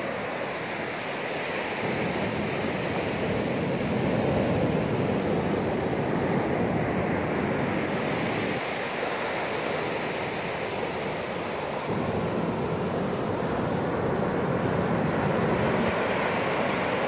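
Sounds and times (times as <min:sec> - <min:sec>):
ocean surf rushing: 0:00.0 - 0:17.0.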